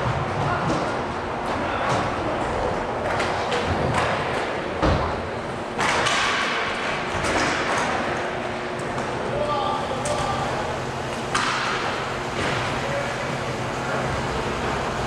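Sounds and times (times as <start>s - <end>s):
skates and sticks clattering: 0.0s - 10.5s, 11.2s - 13.4s.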